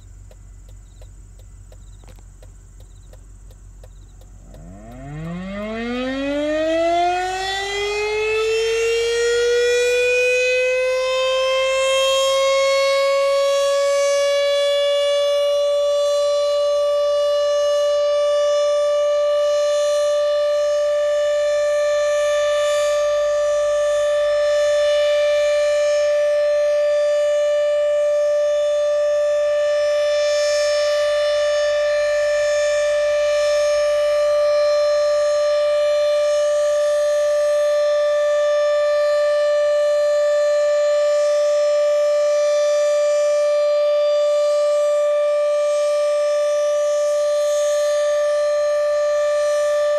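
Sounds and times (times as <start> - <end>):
warning siren winding up: 4.4 - 49.9.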